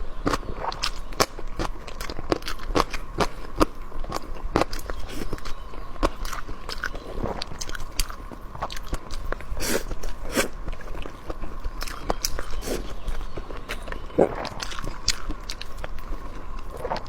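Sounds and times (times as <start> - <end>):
person chewing and biting food: 0.3 - 17.0.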